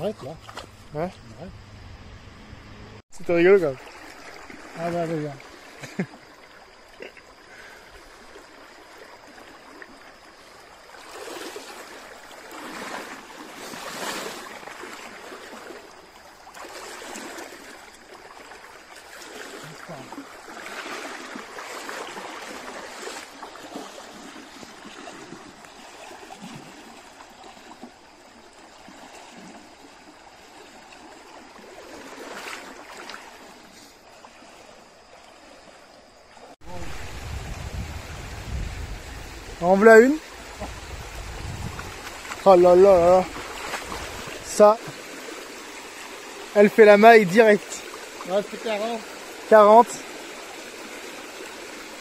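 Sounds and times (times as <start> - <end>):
stream running over stones: 3.2 - 52.0.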